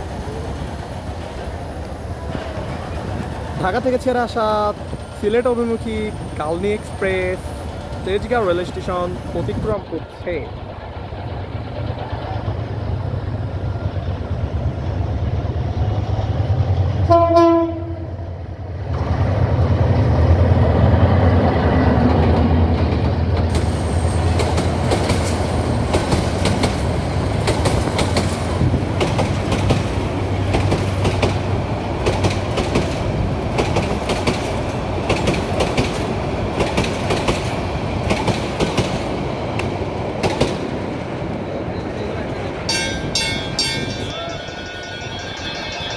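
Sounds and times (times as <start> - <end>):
locomotive engine rumble: 4.5 - 45.9.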